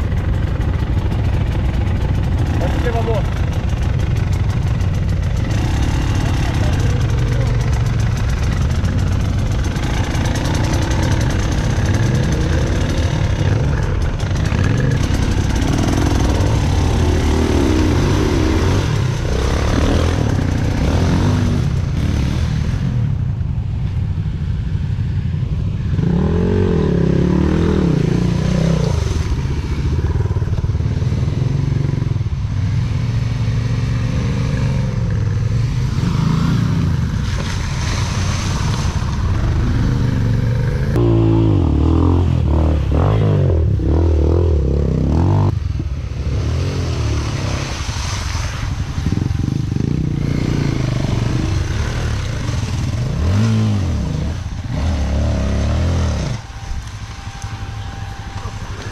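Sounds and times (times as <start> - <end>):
dirt bike engine revving: 0.0 - 23.1, 25.9 - 58.9.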